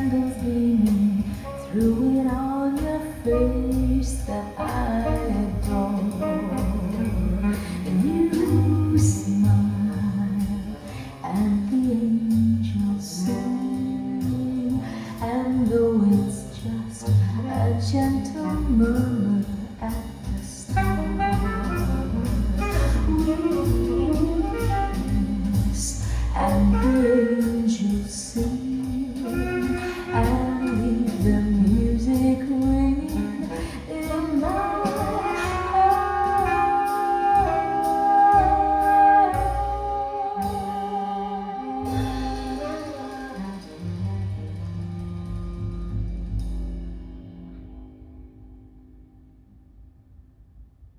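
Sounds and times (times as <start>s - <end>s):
instrumental jazz ballad: 0.0s - 48.7s.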